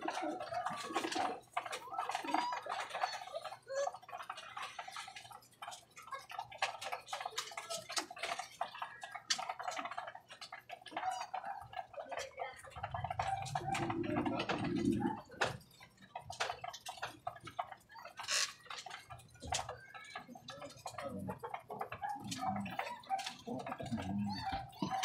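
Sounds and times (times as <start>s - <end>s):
pigeons pecking grain: 0.0s - 25.0s.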